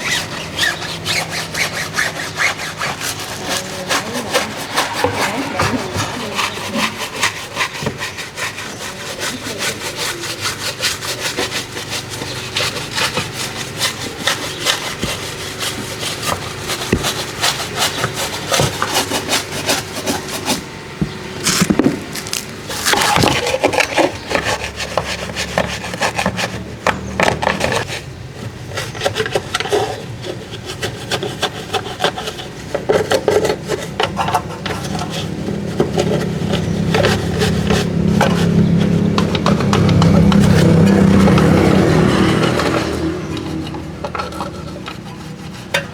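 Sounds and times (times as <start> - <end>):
brush scrubbing car surface: 0.0 - 20.7, 21.4 - 45.9.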